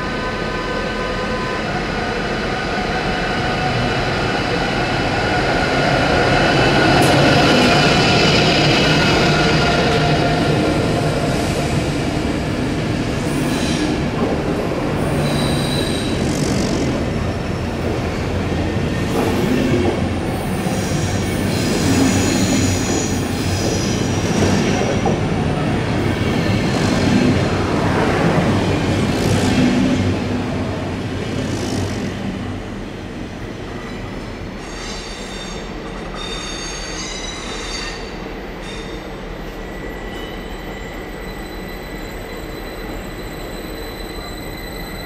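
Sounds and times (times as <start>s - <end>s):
train wheels squealing on rails: 0.0s - 12.0s, 13.0s - 14.2s, 14.8s - 30.0s, 33.5s - 45.0s.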